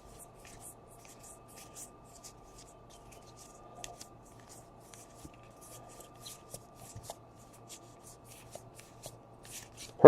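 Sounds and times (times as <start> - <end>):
cards swishing by hand: 0.0 - 10.0
faint electrical hum: 0.0 - 10.0
light clicks of cards: 0.4 - 10.0.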